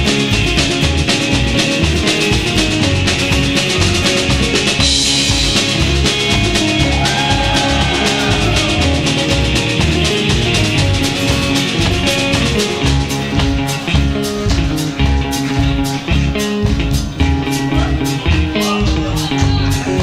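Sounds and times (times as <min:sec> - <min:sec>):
acoustic guitar: 0:00.0 - 0:20.0
live rock band playing: 0:00.0 - 0:20.0.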